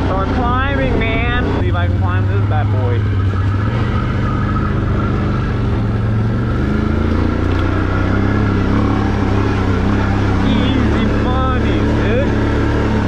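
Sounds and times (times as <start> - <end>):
atv engine climbing hill: 0.0 - 13.0.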